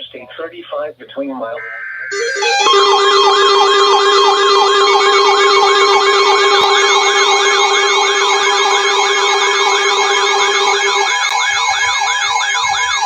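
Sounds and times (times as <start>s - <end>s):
electronic siren tone sweeping: 1.6s - 13.0s.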